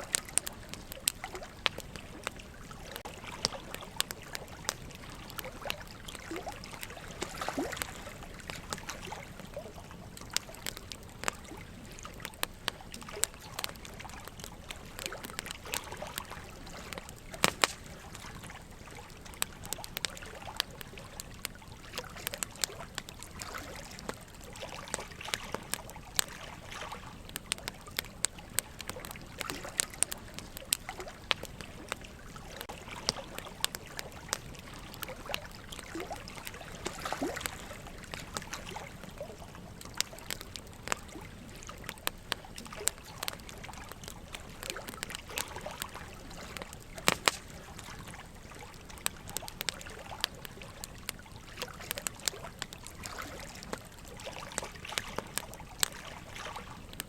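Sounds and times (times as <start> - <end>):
trickle of running water: 0.0 - 57.0
wood fire crackling: 0.0 - 57.0.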